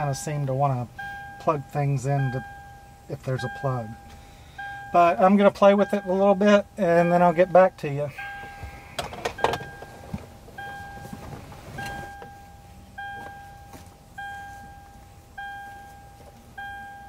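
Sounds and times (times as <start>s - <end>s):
car warning chime dinging: 0.0s - 17.0s.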